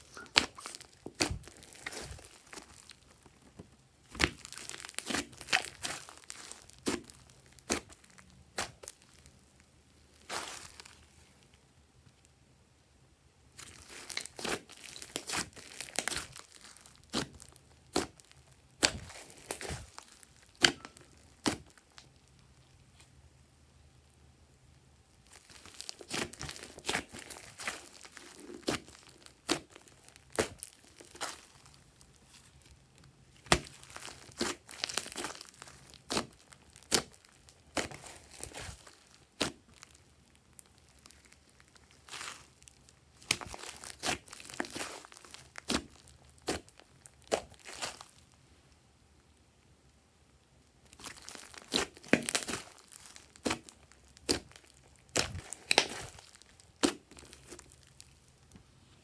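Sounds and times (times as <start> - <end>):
slime crackling and squishing: 0.0 - 12.2, 13.4 - 59.0.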